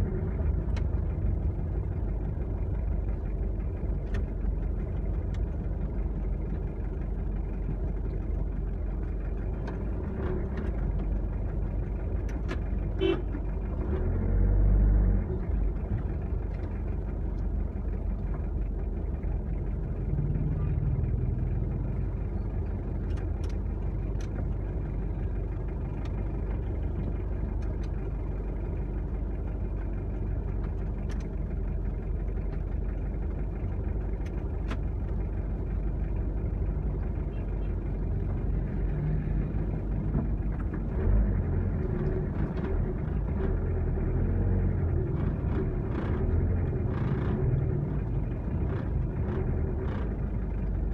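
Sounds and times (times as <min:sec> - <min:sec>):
vehicle engine and road rumble: 0:00.0 - 0:50.9.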